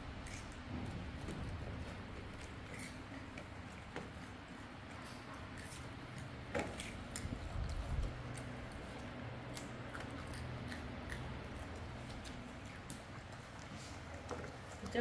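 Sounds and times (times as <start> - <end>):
low steady hum: 0.0 - 15.0
monkeys chewing fruit: 0.1 - 15.0.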